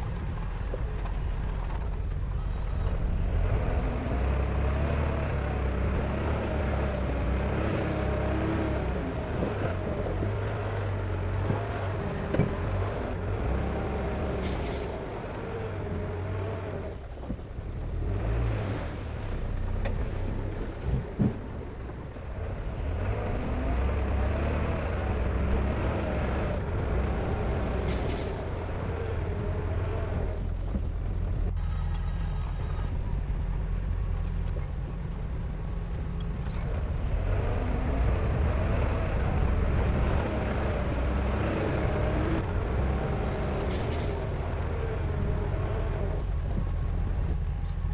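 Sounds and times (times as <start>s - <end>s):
diesel engine working: 0.0s - 47.9s.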